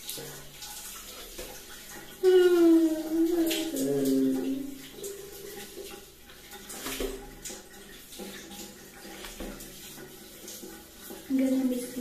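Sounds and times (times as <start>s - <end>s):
shower water splashing: 0.0s - 12.0s.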